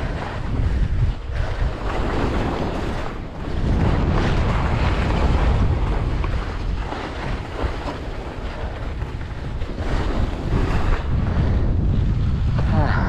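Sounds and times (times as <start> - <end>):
wind buffeting microphone: 0.0 - 13.0
skis scraping over snow: 1.4 - 12.2.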